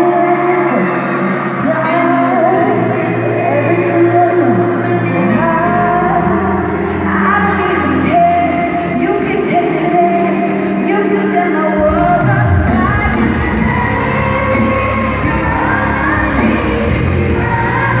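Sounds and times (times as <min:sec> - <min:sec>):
live band playing: 0:00.0 - 0:18.0
woman singing: 0:00.0 - 0:18.0.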